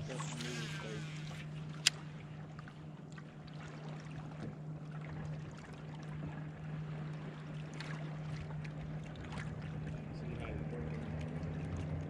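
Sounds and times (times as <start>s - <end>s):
steady low hum: 0.0s - 12.0s
water lapping against hull: 0.0s - 12.0s.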